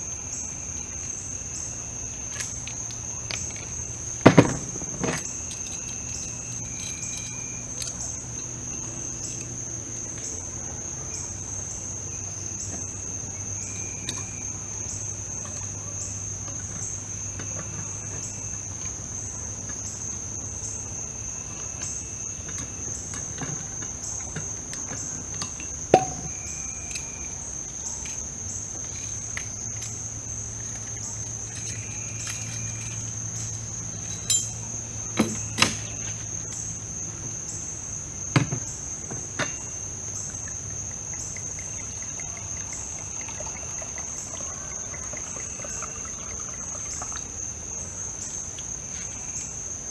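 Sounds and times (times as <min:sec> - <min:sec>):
insects trilling: 0:00.0 - 0:49.9.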